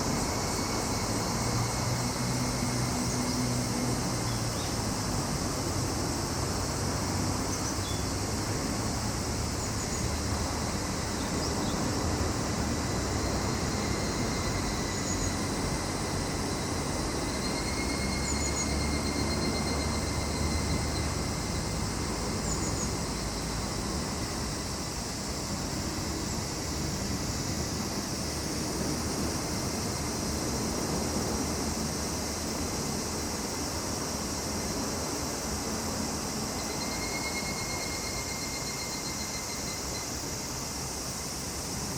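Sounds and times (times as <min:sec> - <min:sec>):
insects chorus hissing: 0:00.0 - 0:41.9.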